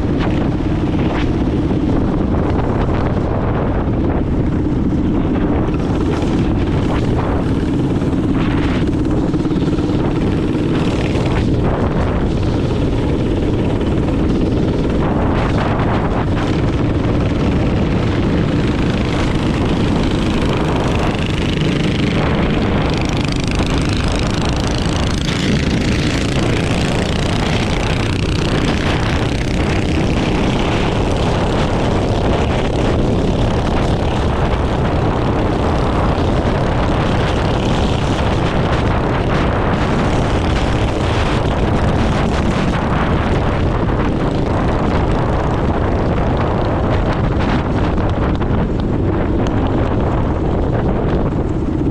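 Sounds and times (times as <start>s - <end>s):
small engine running: 0.0s - 51.8s
wind buffeting microphone: 0.0s - 51.9s.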